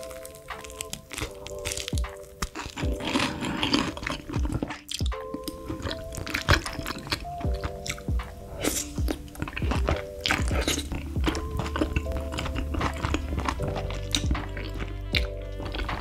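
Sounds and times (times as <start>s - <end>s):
background music with held chords: 0.0s - 16.0s
slurping and chewing noodles: 0.0s - 16.0s.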